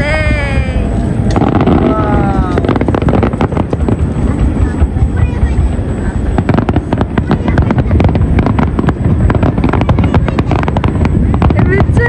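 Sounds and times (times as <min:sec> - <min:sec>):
fireworks crackling: 0:00.0 - 0:12.0
low rumble: 0:00.0 - 0:12.0
fireworks shells bursting: 0:01.0 - 0:12.0.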